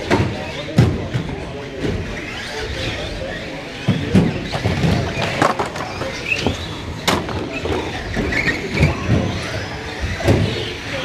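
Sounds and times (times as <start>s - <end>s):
rc truck motors whining: 1.2s - 11.0s.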